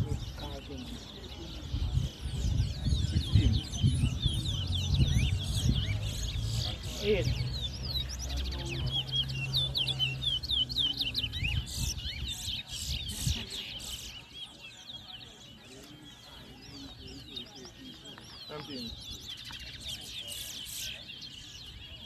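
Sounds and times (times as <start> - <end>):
finches chirping and whistling: 0.0 - 22.0.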